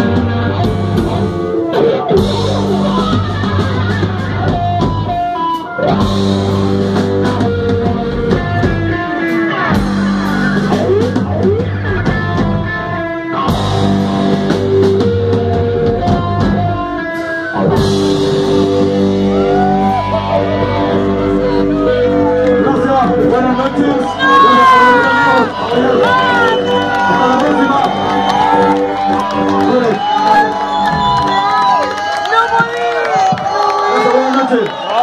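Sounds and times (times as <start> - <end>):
electric guitar bending notes: 0.0 - 33.4
drum kit: 0.0 - 33.8.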